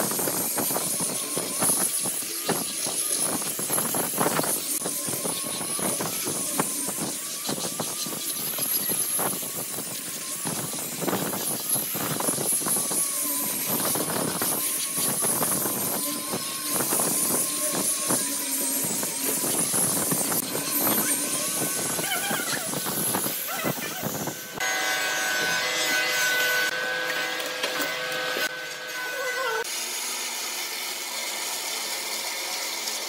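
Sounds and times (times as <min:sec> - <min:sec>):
angle grinder sanding wood: 0:00.0 - 0:33.0.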